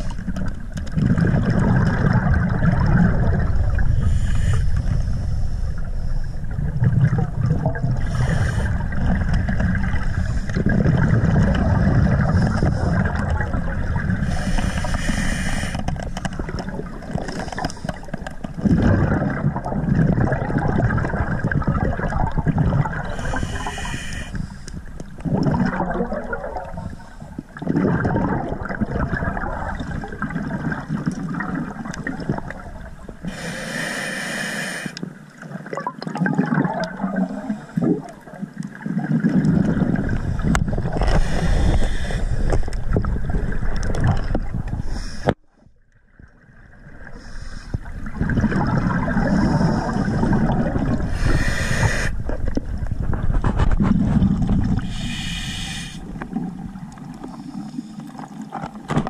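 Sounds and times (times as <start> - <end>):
muffled rumble of bubbles: 0.0 - 33.3, 35.2 - 59.0.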